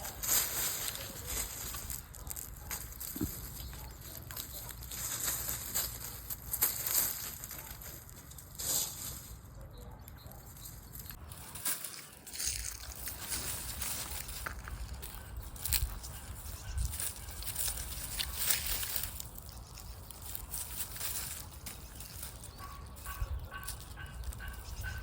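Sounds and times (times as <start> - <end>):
chickens rustling and tapping: 0.0 - 9.5, 10.3 - 25.0.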